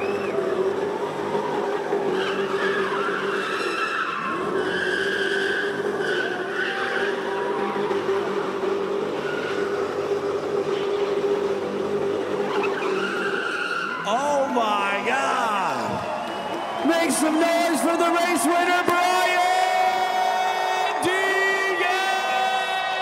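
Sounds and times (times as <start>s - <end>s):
car engines droning: 0.0s - 23.0s.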